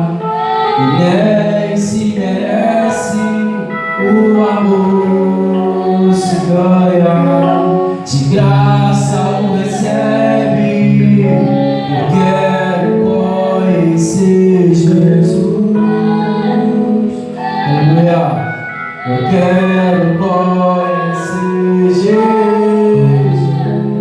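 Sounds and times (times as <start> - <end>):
instrumental accompaniment: 0.0 - 24.0
person singing: 0.0 - 24.0.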